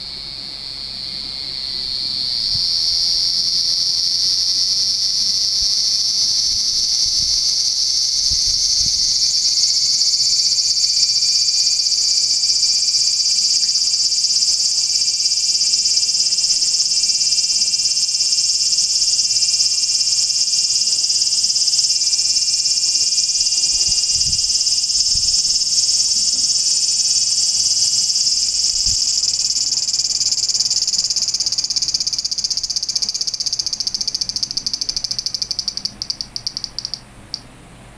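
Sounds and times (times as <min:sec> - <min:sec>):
cicada buzzing: 0:00.0 - 0:37.0.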